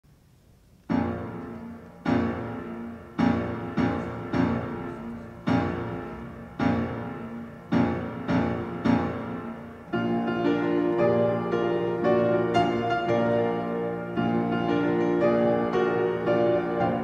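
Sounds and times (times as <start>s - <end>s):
slow piano chords: 0.8s - 17.0s.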